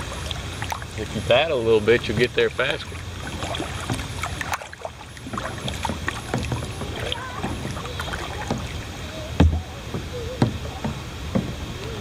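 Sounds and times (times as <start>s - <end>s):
paddle pulling through water: 0.0s - 12.0s
water splashes and drips: 0.0s - 12.0s.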